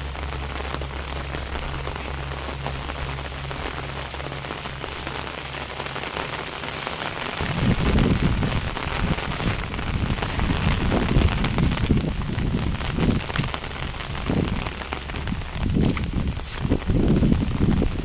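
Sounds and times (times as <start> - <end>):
low pulsing hum: 0.0 - 18.0
low uneven rumble: 0.0 - 18.0
steady rain falling: 0.0 - 18.0.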